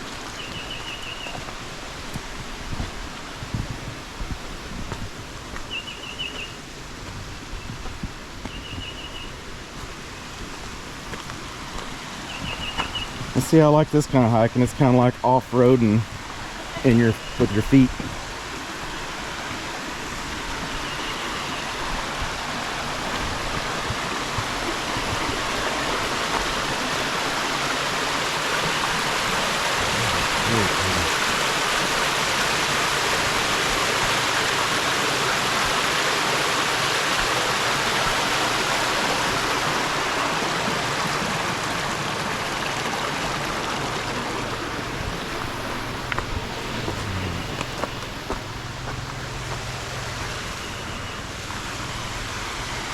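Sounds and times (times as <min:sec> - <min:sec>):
rushing creek water: 0:00.0 - 0:52.9.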